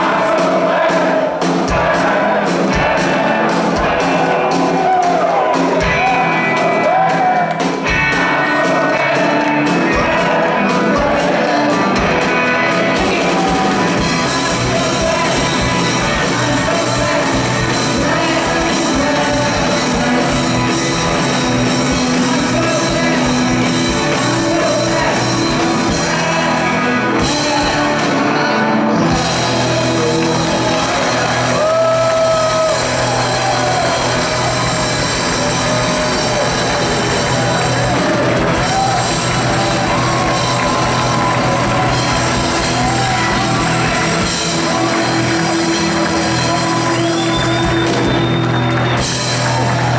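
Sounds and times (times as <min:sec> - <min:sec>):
crowd singing and shouting: 0:00.0 - 0:49.9
live rock band playing: 0:00.0 - 0:49.9.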